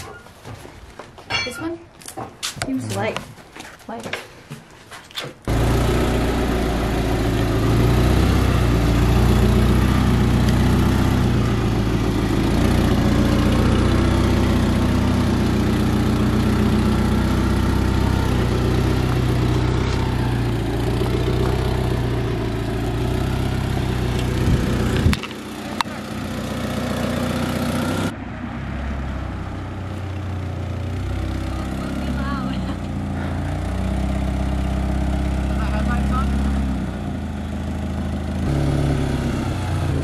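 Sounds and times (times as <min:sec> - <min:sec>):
car engine running: 0:05.5 - 0:28.2, 0:29.6 - 0:40.0.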